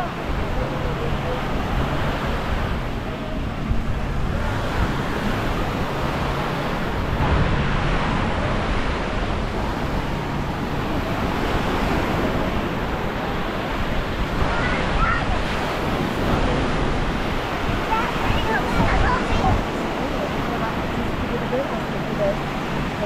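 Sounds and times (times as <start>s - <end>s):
small waves washing onto sand: 0.0s - 23.0s
wind buffeting microphone: 0.0s - 23.0s.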